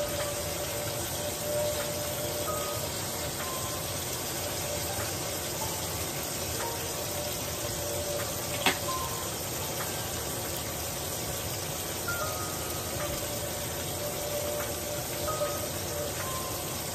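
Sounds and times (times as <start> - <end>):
steak sizzling in frying pan: 0.0 - 16.9.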